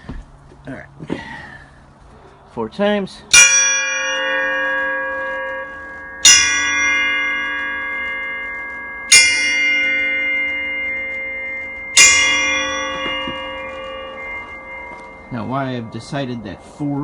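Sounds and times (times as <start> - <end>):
outdoor bell ringing: 3.3 - 17.0.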